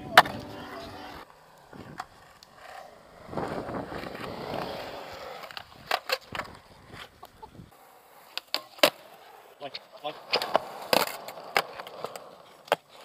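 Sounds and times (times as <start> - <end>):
skateboard clacks: 0.0 - 7.4, 8.2 - 13.0
skateboard wheels rolling: 0.0 - 13.0.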